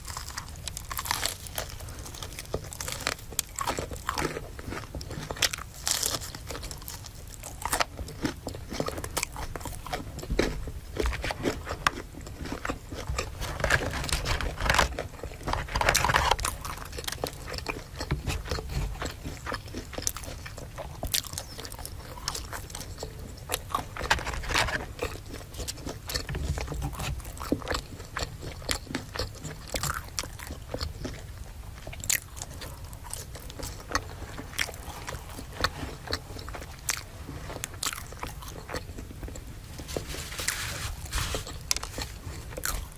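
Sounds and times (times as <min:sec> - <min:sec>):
crunchy food being chewed: 0:00.0 - 0:42.9.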